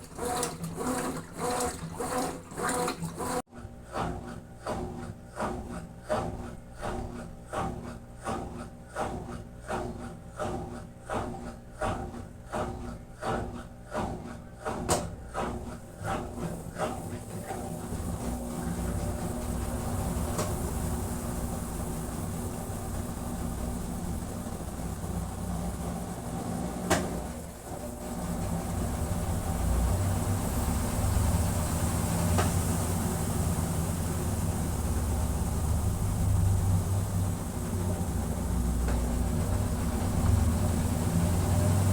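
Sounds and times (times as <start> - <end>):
washing machine pulsing: 0.0 - 41.9
washing machine rushing: 0.0 - 41.9.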